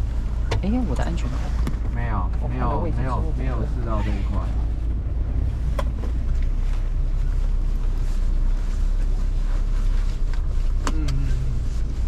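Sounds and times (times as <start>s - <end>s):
van engine and tyres rumbling: 0.0s - 12.0s.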